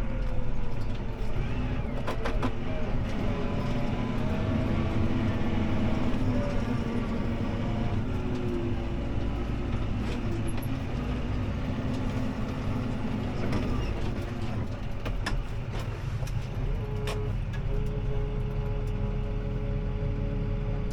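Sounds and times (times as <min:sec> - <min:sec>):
tractor diesel engine under load: 0:00.0 - 0:20.9.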